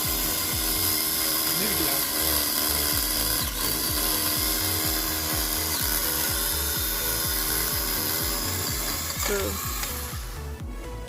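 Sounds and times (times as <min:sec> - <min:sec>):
fast electronic beat with bass: 0:00.0 - 0:00.8, 0:02.9 - 0:11.0.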